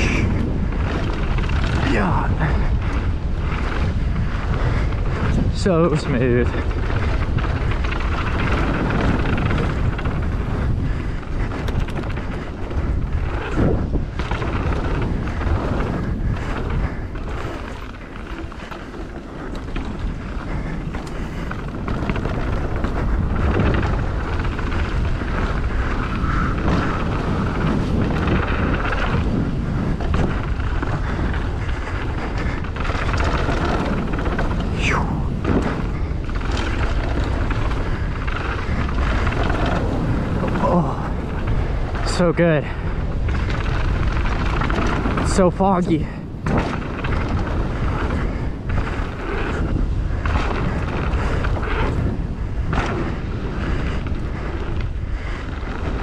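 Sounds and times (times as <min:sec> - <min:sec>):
skis sliding over snow: 0:00.0 - 0:56.0
wind on microphone: 0:00.0 - 0:56.0.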